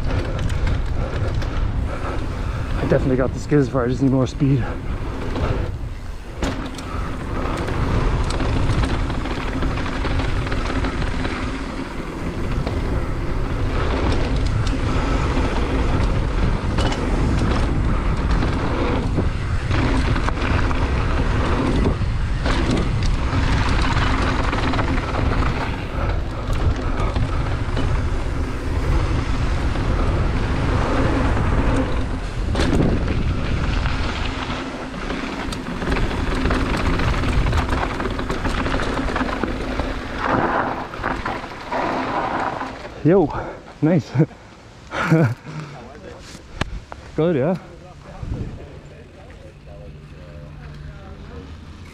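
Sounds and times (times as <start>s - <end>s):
bike knocking and clattering: 0.0s - 43.4s
wind rushing on microphone: 0.0s - 44.3s, 46.4s - 49.2s
tyres rumbling over dirt: 0.0s - 51.9s.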